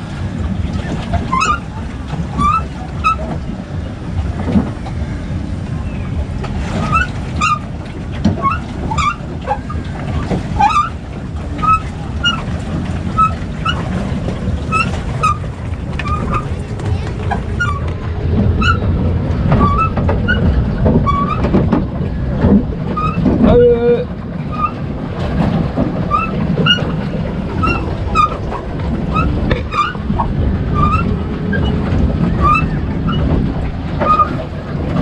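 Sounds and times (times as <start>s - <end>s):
boat drive squeaking: 0.0s - 35.0s
low churning rumble: 0.0s - 35.0s.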